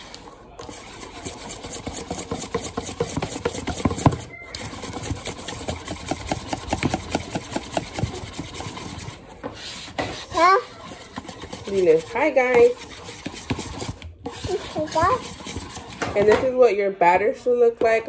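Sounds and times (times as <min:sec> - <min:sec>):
whisk beating batter in bowl: 0:00.0 - 0:16.6.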